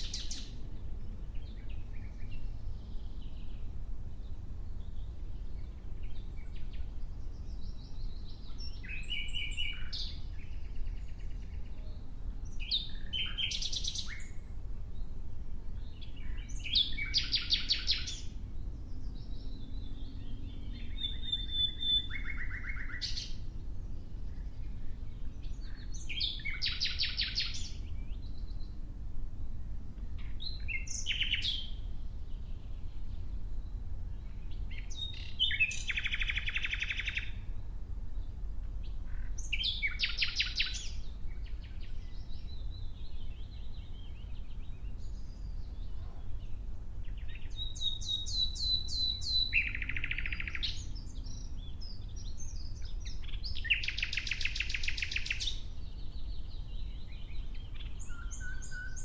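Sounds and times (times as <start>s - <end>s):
nightingale singing: 0.0s - 0.7s, 1.3s - 15.2s, 15.8s - 28.8s, 30.2s - 59.0s.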